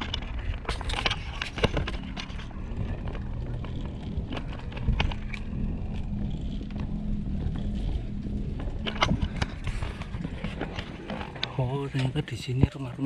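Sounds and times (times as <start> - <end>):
bike rolling rumble: 0.0 - 13.0
light clicks and rattles: 0.0 - 13.0.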